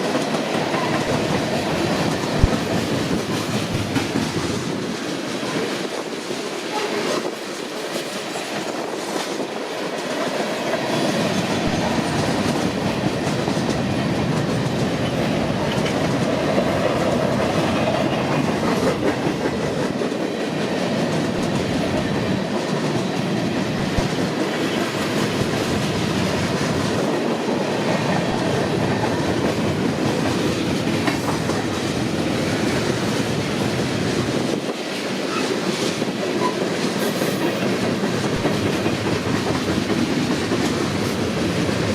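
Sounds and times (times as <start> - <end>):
freight train wheels clacking: 0.0 - 41.9.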